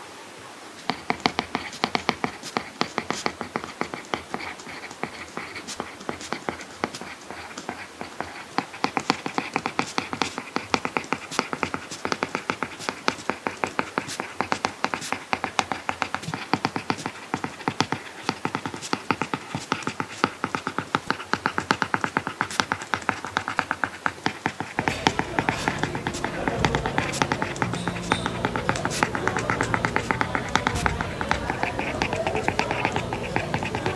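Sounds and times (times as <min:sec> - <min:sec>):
stylus tapping and scratching screen: 0:00.8 - 0:33.9.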